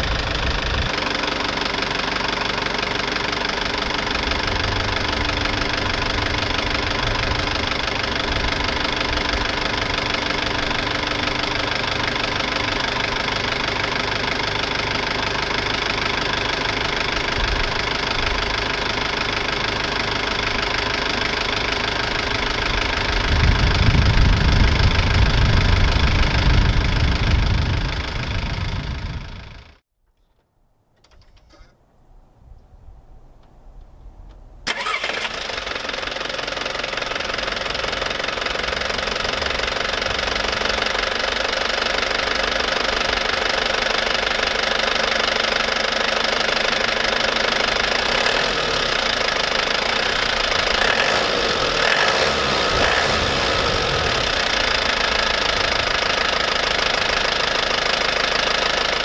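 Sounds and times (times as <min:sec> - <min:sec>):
diesel engine idling: 0:00.0 - 0:29.8, 0:34.7 - 0:59.0.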